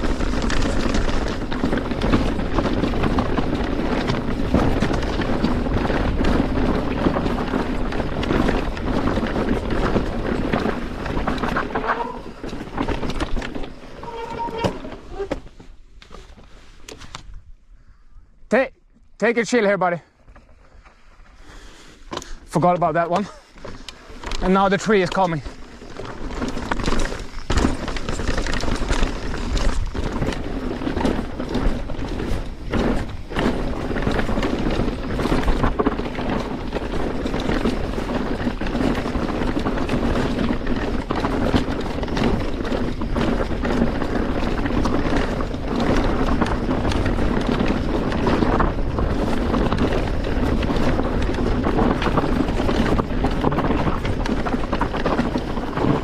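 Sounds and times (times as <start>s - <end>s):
wind rushing over microphone: 0.0s - 15.4s, 24.2s - 56.0s
bike tyre roar: 0.0s - 15.6s, 21.4s - 56.0s
bike knocking and rattling: 0.0s - 17.6s, 19.3s - 56.0s.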